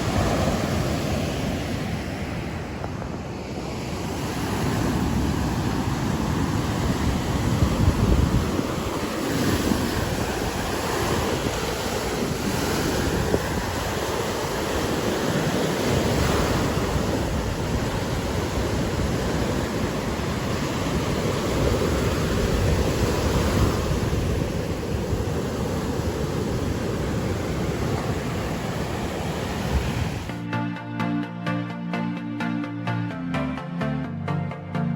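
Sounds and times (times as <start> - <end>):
wind on microphone: 0.0 - 30.4
waves breaking on shore: 0.0 - 30.5.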